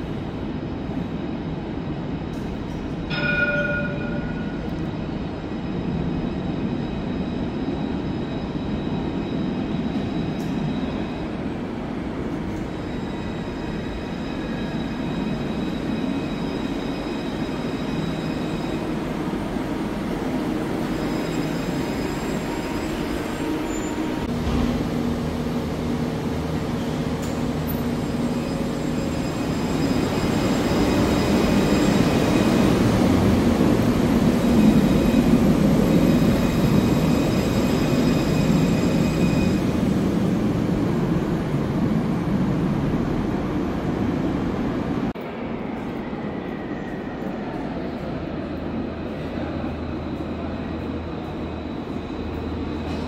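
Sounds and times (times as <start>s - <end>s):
tram wheels rumbling on rail: 0.0s - 53.0s.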